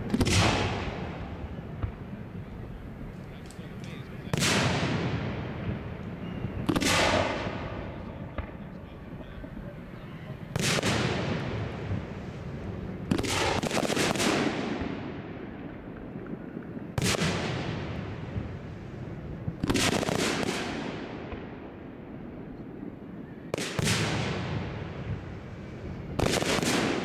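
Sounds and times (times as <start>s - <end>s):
firework shells booming: 0.0s - 18.8s, 19.4s - 21.7s, 22.9s - 25.4s, 26.0s - 27.0s.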